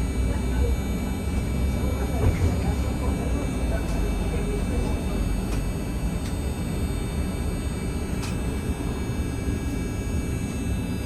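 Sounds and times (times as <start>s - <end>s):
vehicle rumble from inside: 0.0s - 9.8s.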